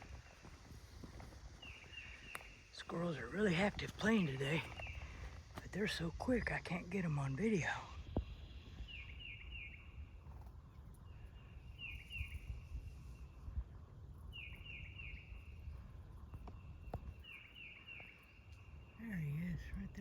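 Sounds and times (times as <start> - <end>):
faint low rumble: 0.0 - 20.0.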